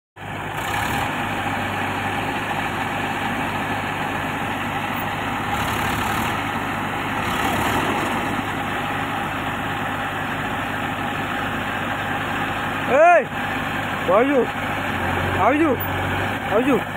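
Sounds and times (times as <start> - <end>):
diesel engine idling: 0.2 - 16.9.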